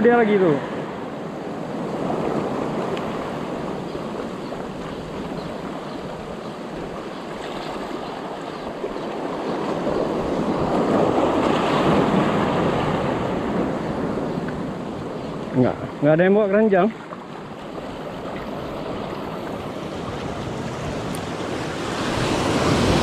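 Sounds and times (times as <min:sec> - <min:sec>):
surf washing over rocks: 0:00.0 - 0:23.0.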